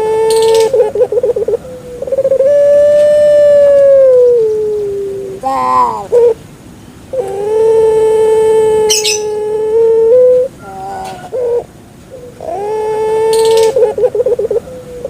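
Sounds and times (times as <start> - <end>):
dove cooing: 0.0 - 6.4, 7.1 - 15.0.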